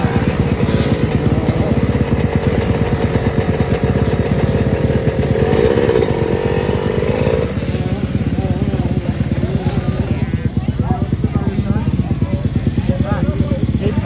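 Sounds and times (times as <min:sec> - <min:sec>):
motocross bike engine running: 0:00.0 - 0:14.0.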